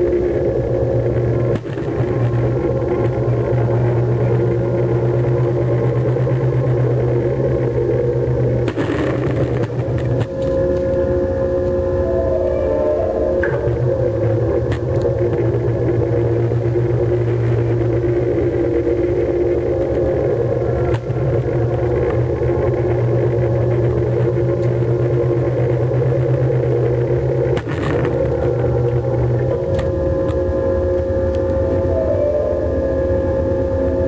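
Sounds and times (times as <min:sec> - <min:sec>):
engine droning steadily: 0:00.0 - 0:34.0.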